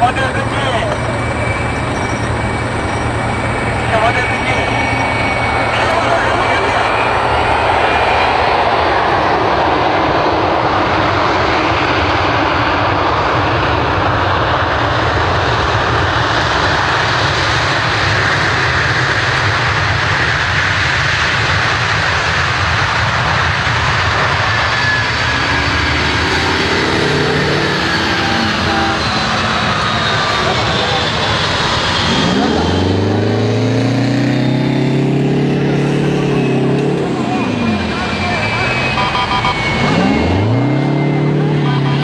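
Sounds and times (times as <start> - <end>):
faint engine whine: 0.0 - 42.0
jet engines running: 0.0 - 42.0.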